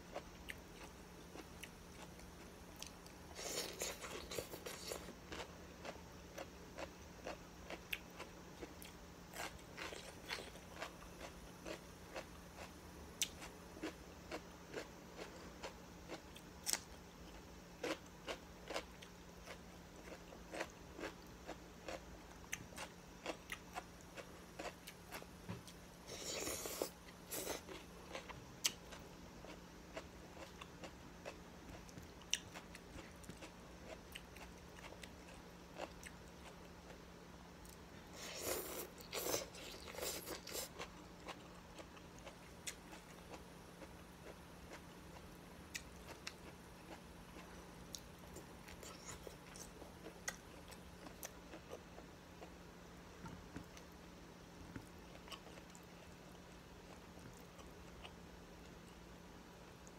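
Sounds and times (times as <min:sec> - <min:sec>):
faint steady hum: 0:00.0 - 0:59.9
person chewing: 0:00.1 - 0:37.0, 0:37.6 - 0:52.5, 0:54.7 - 0:58.9.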